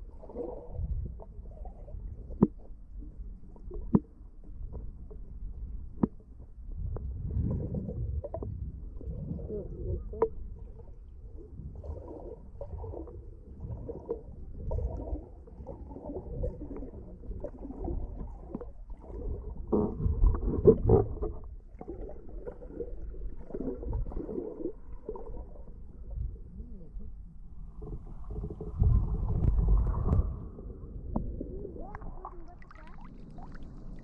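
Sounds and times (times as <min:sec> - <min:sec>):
muffled underwater water sloshing: 0:00.0 - 0:34.0.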